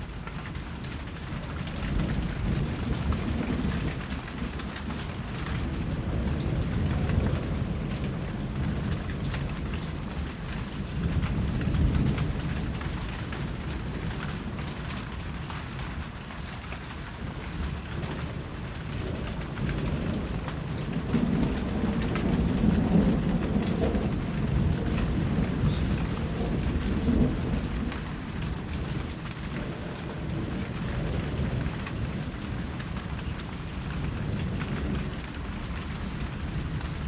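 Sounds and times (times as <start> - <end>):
steady rain falling: 0.0 - 37.0
thunder rumbling: 0.0 - 37.0.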